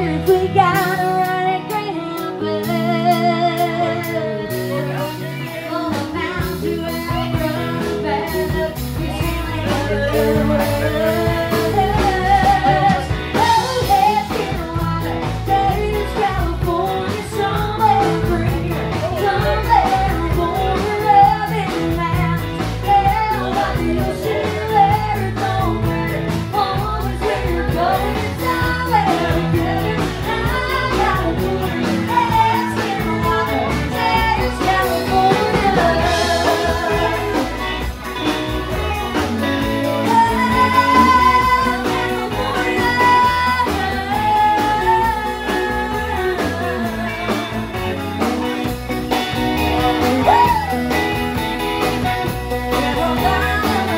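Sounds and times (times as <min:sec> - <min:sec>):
live band with guitar: 0:00.0 - 0:53.9
woman singing country song: 0:00.0 - 0:53.9.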